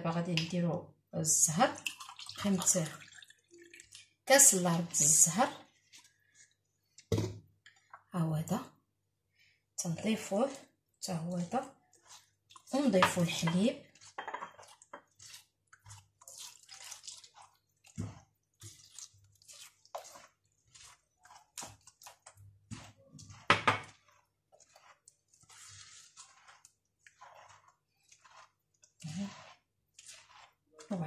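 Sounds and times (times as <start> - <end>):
milk pouring and splashing: 1.3 - 8.1, 9.3 - 31.0
hand squishing wet batter: 1.5 - 8.1, 8.9 - 31.0.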